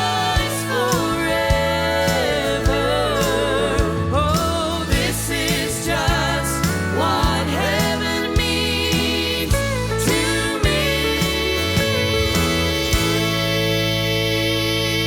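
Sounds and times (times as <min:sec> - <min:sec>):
band with steady drum beat: 0:00.0 - 0:15.0.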